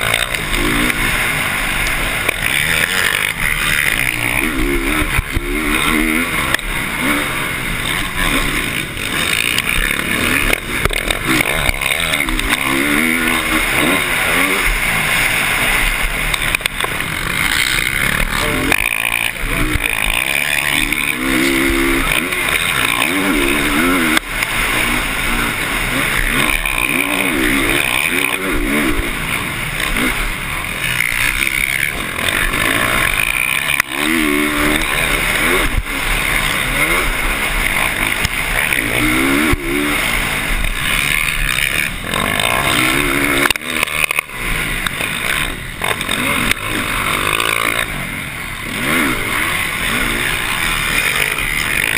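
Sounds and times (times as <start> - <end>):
constant rushing noise: 0.0 - 51.9
motocross bike engine revving: 0.0 - 51.9.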